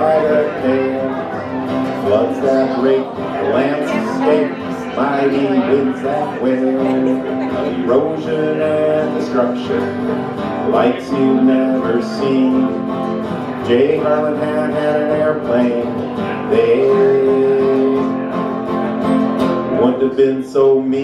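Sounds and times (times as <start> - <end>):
acoustic guitars strummed: 0.0 - 21.0
man singing: 0.0 - 21.0.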